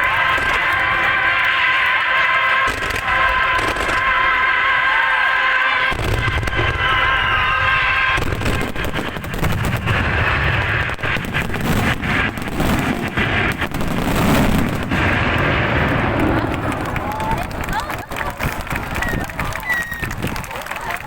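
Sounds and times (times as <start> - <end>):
fireworks barrage booming: 0.0 - 21.0
low rumble: 0.0 - 21.0.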